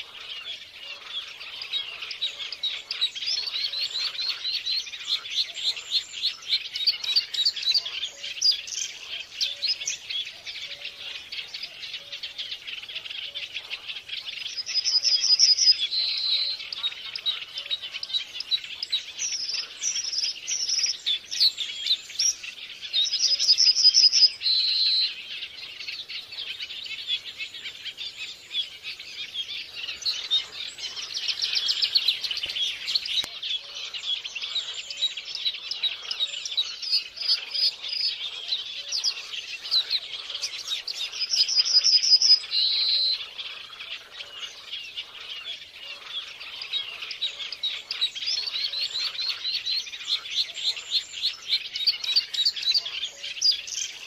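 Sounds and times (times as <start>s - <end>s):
bird chattering and warbling: 0.0s - 54.0s.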